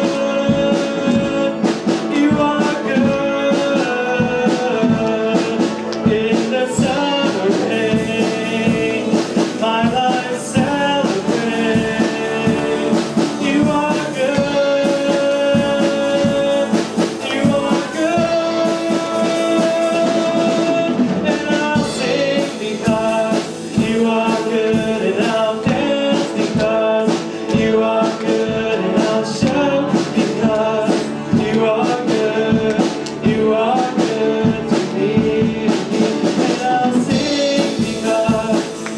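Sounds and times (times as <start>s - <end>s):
person singing: 0.0s - 38.9s
steady drum beat: 0.0s - 38.9s
worship song by band: 0.0s - 38.9s.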